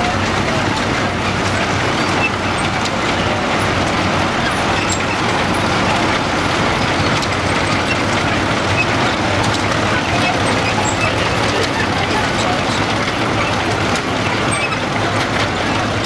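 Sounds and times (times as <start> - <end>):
bulldozer running: 0.0 - 16.0
crawler tractor diesel engine: 0.0 - 16.0.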